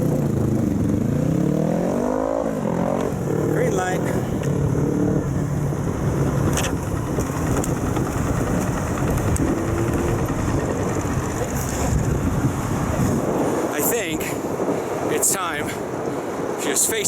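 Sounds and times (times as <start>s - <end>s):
road traffic: 0.0s - 17.0s
wind noise on microphone: 0.0s - 17.0s.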